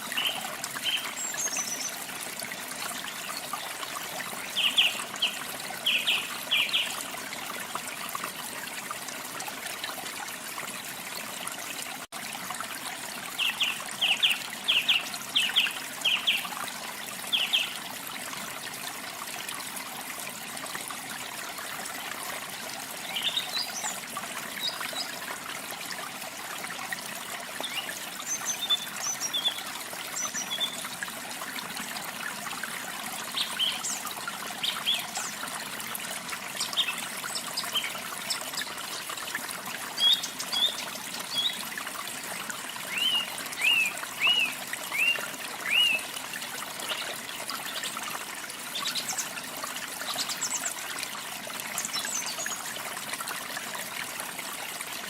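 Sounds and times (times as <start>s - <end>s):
water trickling over rocks: 0.0s - 55.0s.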